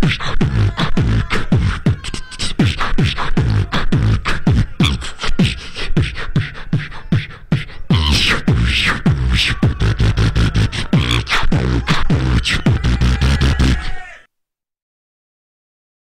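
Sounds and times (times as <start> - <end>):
beatboxed beat: 0.0 - 14.0
high vocal sound: 0.0 - 14.3.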